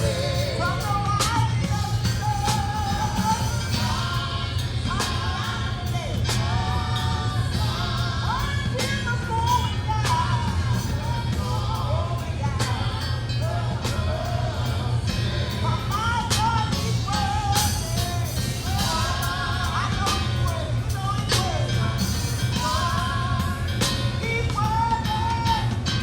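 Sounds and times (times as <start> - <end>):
drums: 0.0 - 26.0
person singing: 0.0 - 26.0
very loud bass: 0.0 - 26.0.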